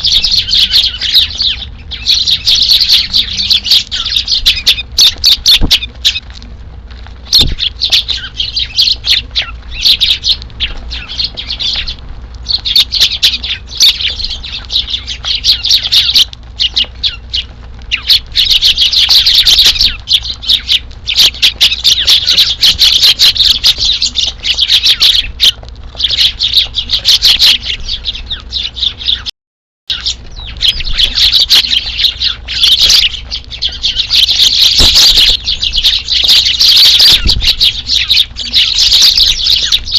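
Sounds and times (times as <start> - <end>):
flock of sparrows chirping: 0.0 - 29.3, 29.9 - 39.9.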